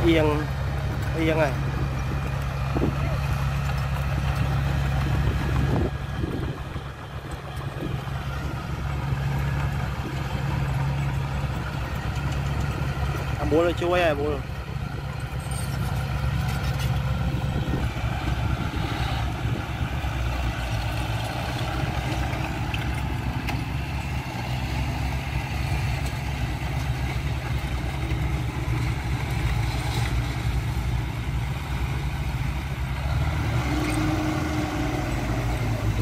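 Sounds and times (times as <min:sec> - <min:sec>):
bulldozer diesel engine: 0:00.0 - 0:36.0
dump truck diesel engine: 0:00.0 - 0:36.0.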